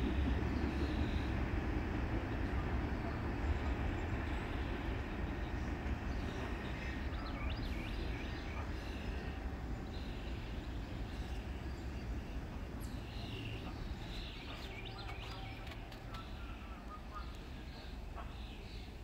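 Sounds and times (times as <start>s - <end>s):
freight train rumble: 0.0s - 19.0s
birds chirping: 0.1s - 19.0s.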